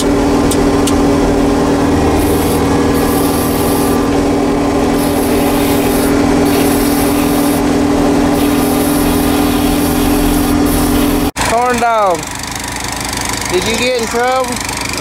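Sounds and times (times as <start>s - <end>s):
engine and machinery hum: 0.0s - 15.0s.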